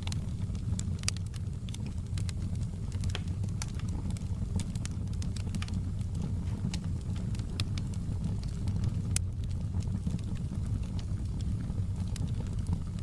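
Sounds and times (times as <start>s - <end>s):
crackles and pops of burning wood: 0.0s - 13.0s
low rumble of flames: 0.0s - 13.0s.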